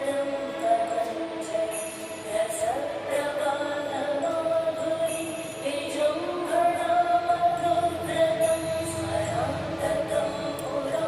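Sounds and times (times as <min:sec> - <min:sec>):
person singing long wavering notes: 0:00.0 - 0:11.0.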